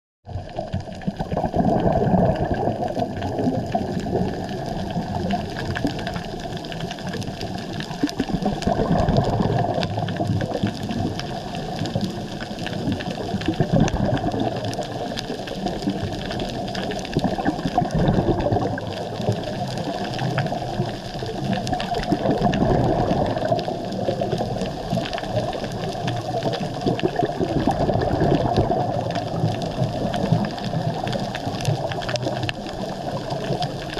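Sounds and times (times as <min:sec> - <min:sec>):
muffled underwater rush: 0:00.2 - 0:33.9.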